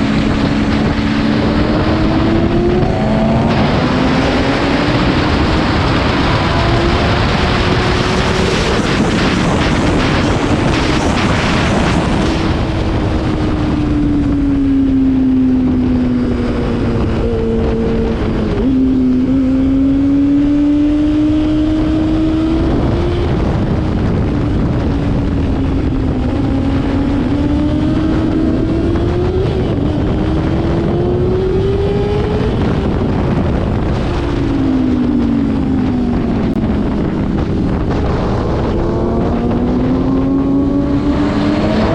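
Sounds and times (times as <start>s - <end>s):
motorcycle engine at speed: 0.0s - 41.9s
wind rush on microphone: 0.0s - 41.9s.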